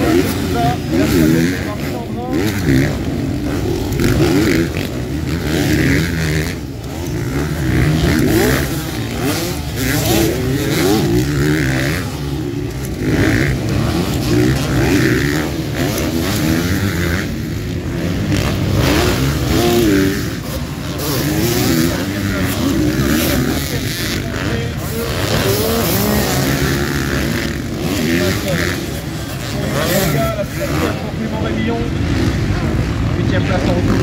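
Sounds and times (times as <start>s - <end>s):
motocross bikes revving: 0.0s - 34.0s.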